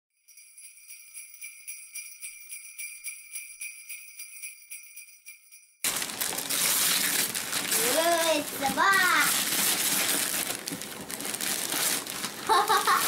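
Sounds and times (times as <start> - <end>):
sleigh bells jingling: 0.2 - 10.0, 12.0 - 13.0.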